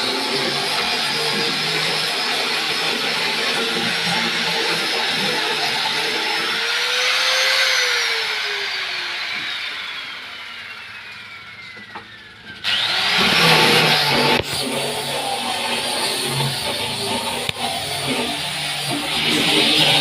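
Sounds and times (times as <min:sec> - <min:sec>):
electric sander motor whine: 0:00.0 - 0:20.0.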